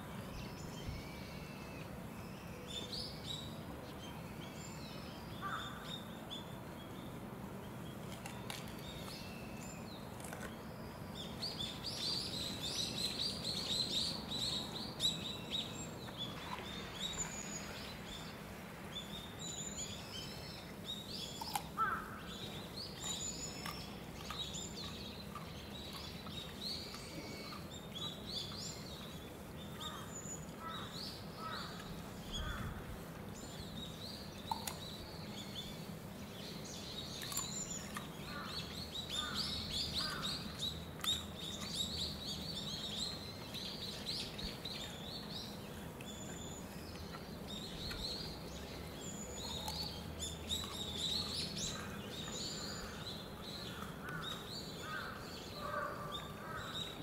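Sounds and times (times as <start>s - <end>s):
low background hum: 0.0s - 57.0s
small birds chirping: 0.0s - 57.0s.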